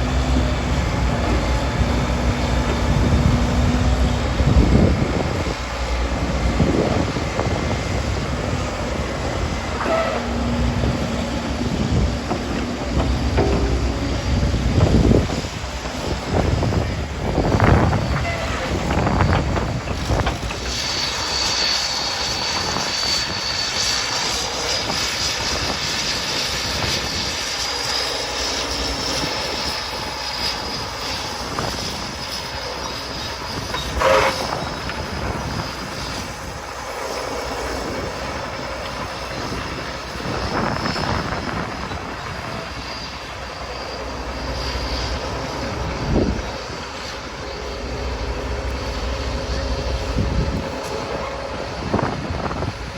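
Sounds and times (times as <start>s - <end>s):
crawler tractor engine drone: 0.0s - 52.9s
high whine: 0.0s - 52.9s.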